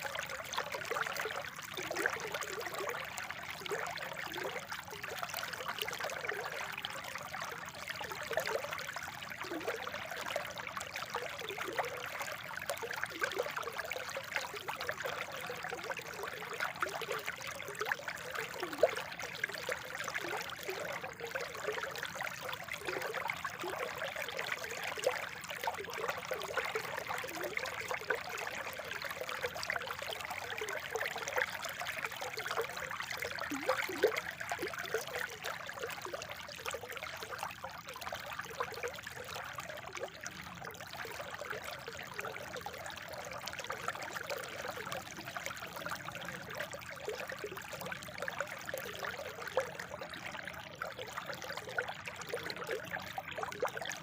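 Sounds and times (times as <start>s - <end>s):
water trickling over stones: 0.0s - 54.0s.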